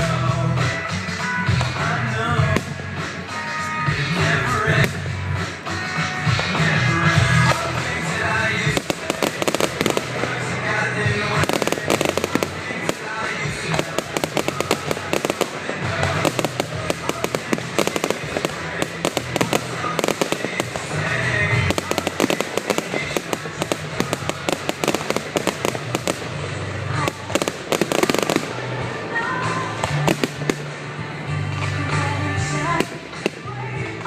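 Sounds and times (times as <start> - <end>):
fireworks bangs and crackling: 0.0 - 34.0
music playing: 0.0 - 34.0.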